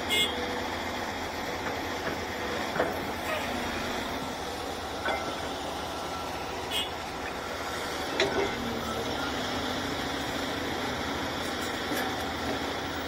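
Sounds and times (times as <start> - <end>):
hydraulic excavator running: 0.0 - 13.0.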